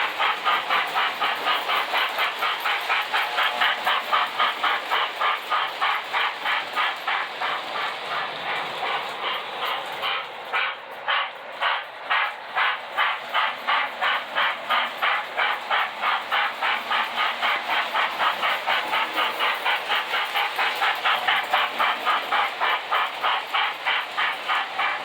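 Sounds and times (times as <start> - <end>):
model steam locomotive chuffing: 0.0 - 25.0.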